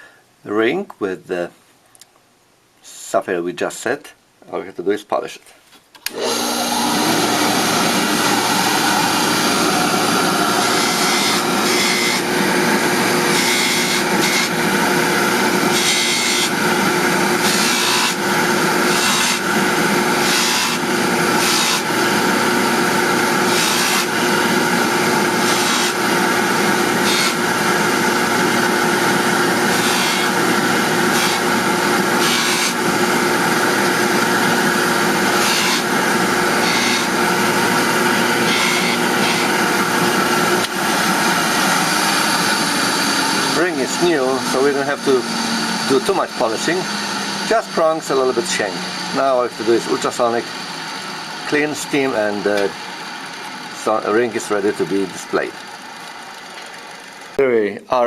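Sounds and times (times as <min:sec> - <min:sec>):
polishing motor humming: 0:06.1 - 0:57.4.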